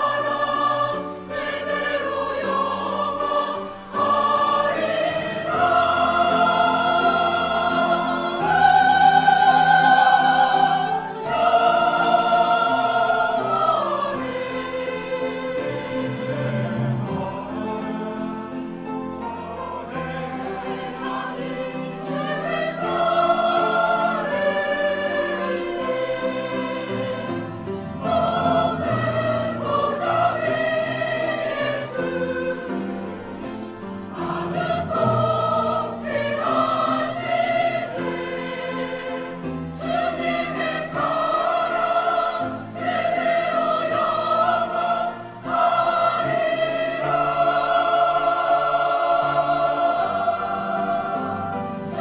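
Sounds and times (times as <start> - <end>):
church choir singing: 0.0 - 52.0.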